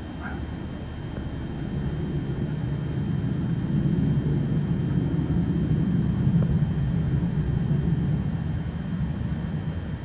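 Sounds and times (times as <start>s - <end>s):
jet aircraft rumble overhead: 0.0s - 10.0s.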